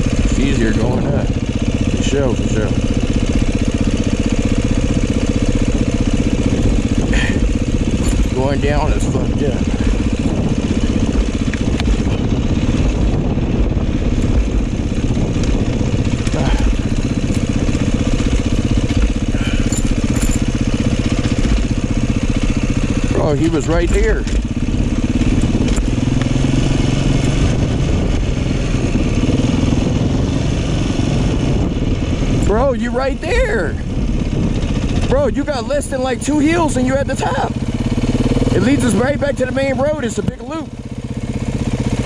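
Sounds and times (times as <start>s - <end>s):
dirt bike engine running: 0.0s - 42.0s.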